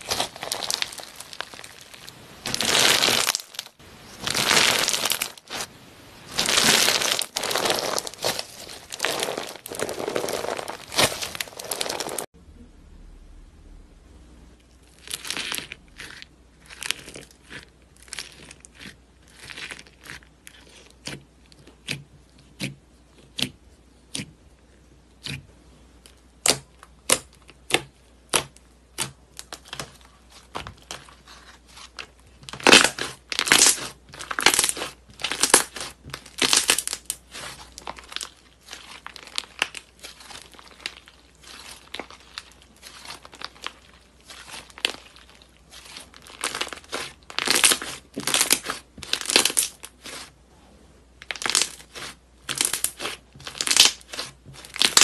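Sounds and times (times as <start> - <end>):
slime squishing and crackling: 0.0 - 12.3, 14.8 - 24.4, 26.1 - 50.4, 51.2 - 55.0.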